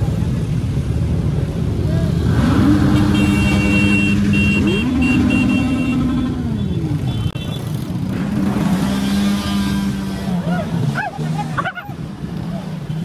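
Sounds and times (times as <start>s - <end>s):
many motorcycle engines: 0.0s - 13.0s.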